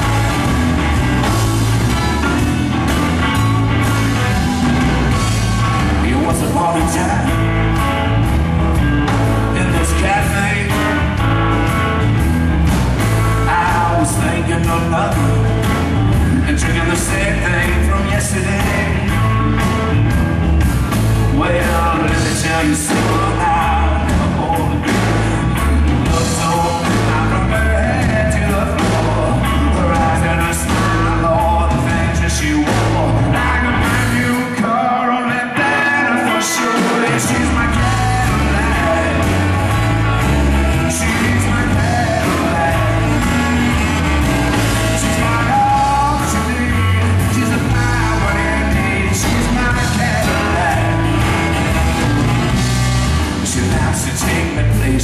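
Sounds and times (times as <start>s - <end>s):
person singing: 0.0s - 7.6s, 9.4s - 11.3s, 13.0s - 19.5s, 21.2s - 55.0s
blues band playing: 0.0s - 55.0s.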